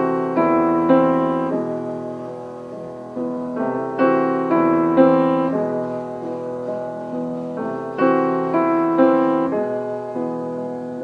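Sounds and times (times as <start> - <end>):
gentle piano chords: 0.0 - 11.0.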